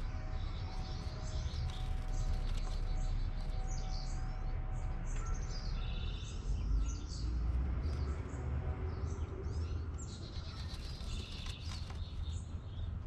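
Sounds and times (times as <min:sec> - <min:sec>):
steady low rumble: 0:00.0 - 0:11.4
songbirds chirping and warbling: 0:00.0 - 0:13.0.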